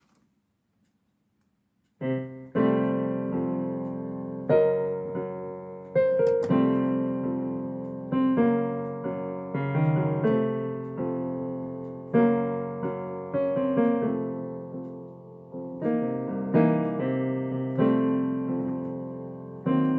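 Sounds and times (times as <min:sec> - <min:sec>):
slow jazz piano chords: 0:02.0 - 0:19.9.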